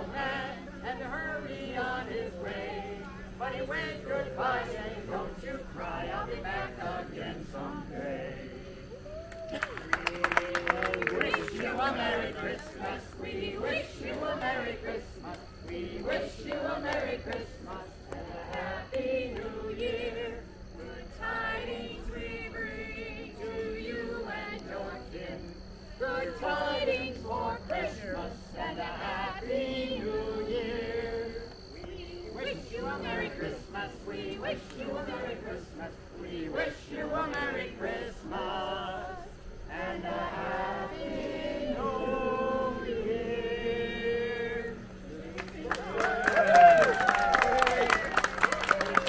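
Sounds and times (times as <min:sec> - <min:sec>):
group of carolers singing: 0:00.0 - 0:49.0.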